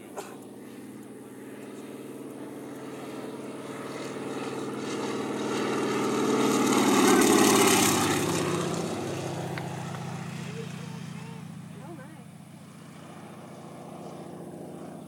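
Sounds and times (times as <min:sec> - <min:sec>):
propeller airplane passing: 0:00.0 - 0:15.0.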